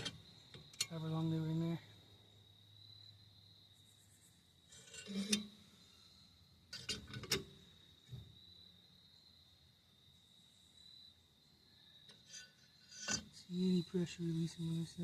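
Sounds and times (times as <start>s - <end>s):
high cricket trill: 0.0s - 15.0s.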